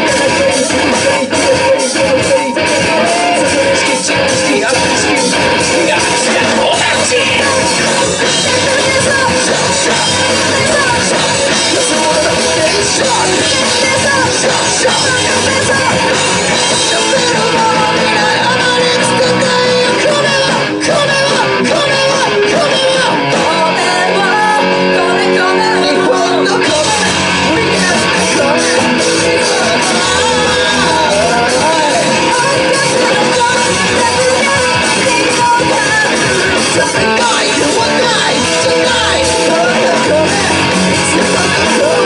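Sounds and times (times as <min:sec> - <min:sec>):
drums: 0:00.0 - 0:42.0
electric guitar: 0:00.0 - 0:42.0
person singing: 0:00.0 - 0:42.0.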